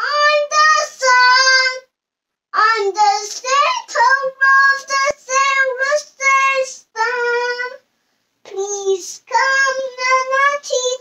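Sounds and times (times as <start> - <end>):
child singing: 0.0 - 1.9, 2.6 - 11.0.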